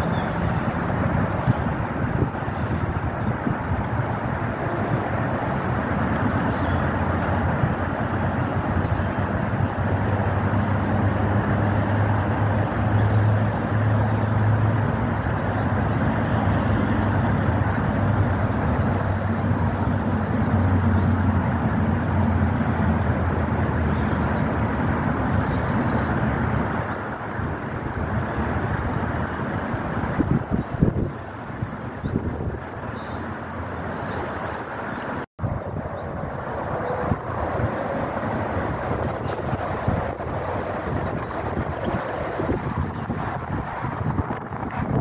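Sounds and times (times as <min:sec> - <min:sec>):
outdoor rumble: 0:00.0 - 0:45.0.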